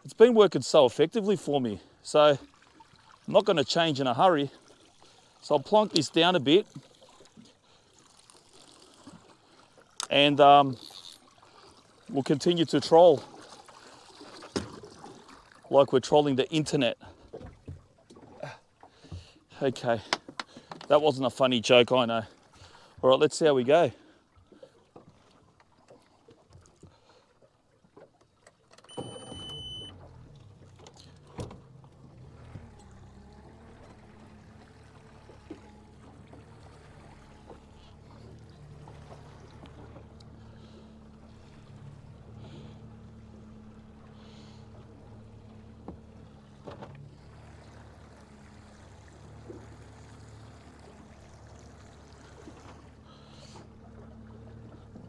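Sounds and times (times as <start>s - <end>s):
outboard motor running: 0.0s - 55.0s
water washing past hull: 0.0s - 55.0s.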